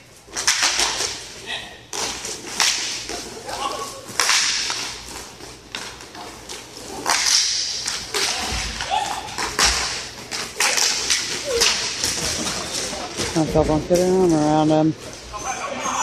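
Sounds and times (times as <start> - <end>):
hockey sticks clacking on puck: 0.3 - 1.3, 1.9 - 15.2.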